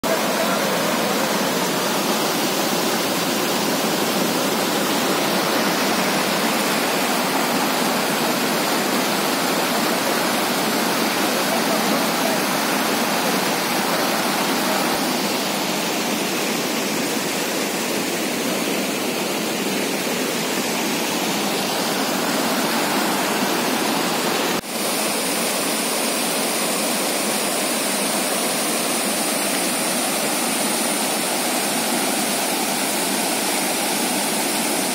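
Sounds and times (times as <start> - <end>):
water rushing over a weir: 0.0 - 34.9.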